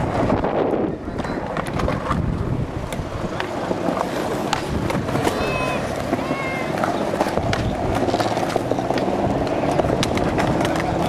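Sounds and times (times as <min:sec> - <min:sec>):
skateboard wheels rolling on concrete: 0:00.0 - 0:11.0
wheels clicking over cracks: 0:00.0 - 0:11.0
wind buffeting microphone: 0:00.0 - 0:11.0.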